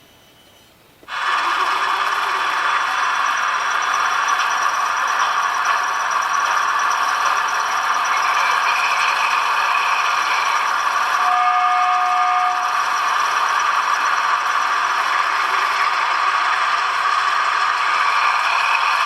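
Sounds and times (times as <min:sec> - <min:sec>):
diesel engine sound from small speaker: 0:01.1 - 0:19.0.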